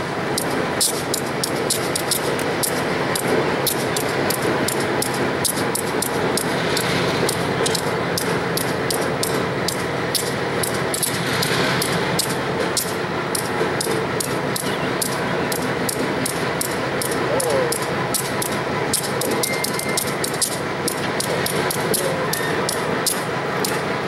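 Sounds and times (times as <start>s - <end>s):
slow train rumble: 0.0s - 24.0s
sharp clicks: 0.4s - 23.9s.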